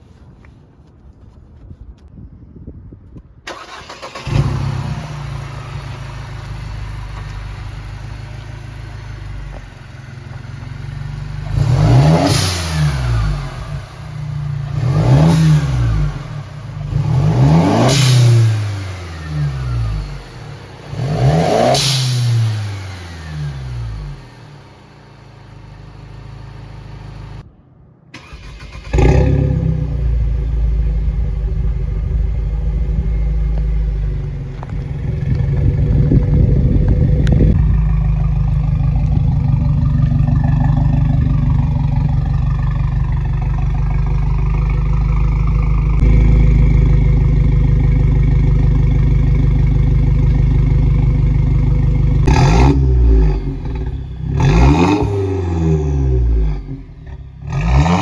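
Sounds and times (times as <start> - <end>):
car engine revving: 3.5 - 27.4, 28.2 - 58.0.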